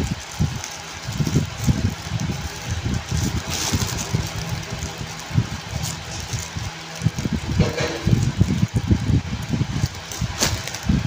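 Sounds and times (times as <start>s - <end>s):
foil balloon crinkling: 0.0s - 11.0s.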